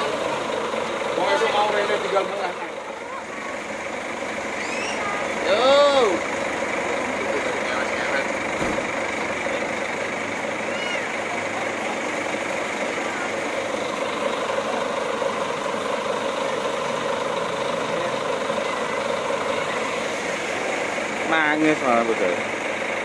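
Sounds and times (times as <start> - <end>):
diesel bus engine idling: 0.0 - 23.0
heavy rain: 0.0 - 23.0.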